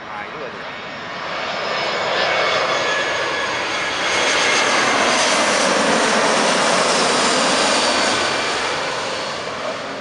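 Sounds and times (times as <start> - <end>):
jet airliner passing overhead: 0.0 - 10.0.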